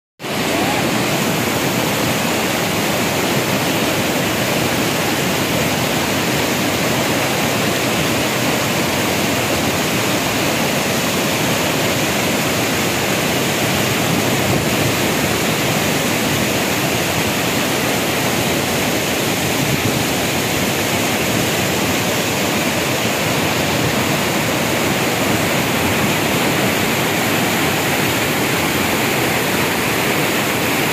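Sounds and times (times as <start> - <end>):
stream rushing over rocks: 0.2 - 30.9.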